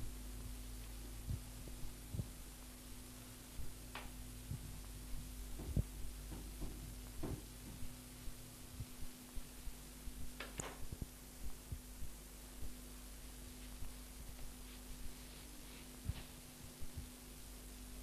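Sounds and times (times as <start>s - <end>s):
low electrical hum: 0.0s - 18.0s
soft low thumps: 0.0s - 18.0s.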